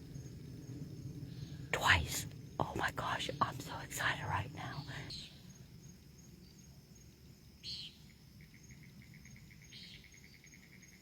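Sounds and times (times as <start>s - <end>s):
cricket chirping: 0.0s - 11.0s
low steady hiss: 0.0s - 11.0s.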